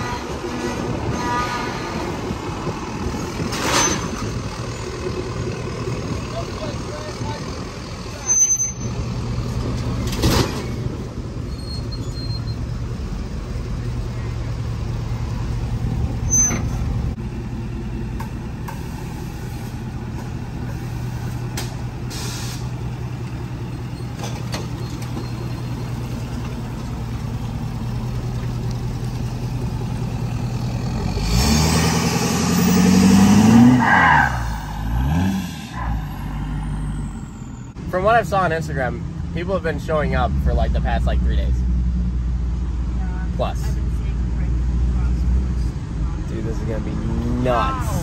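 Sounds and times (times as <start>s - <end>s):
truck engine idling and revving: 0.0s - 48.0s.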